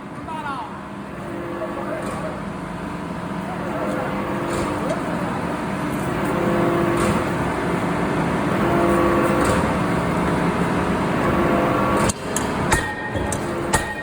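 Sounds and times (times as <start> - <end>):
industrial machinery din: 0.0 - 14.0.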